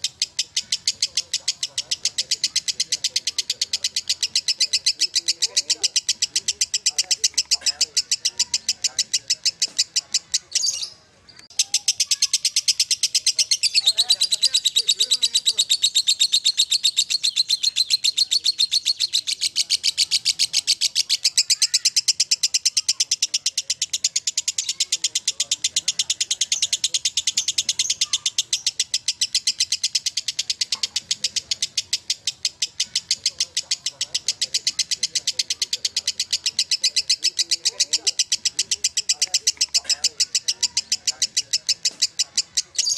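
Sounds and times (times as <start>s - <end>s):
bird chirping rapidly: 0.0s - 42.9s
lovebird chattering trill: 0.0s - 42.9s.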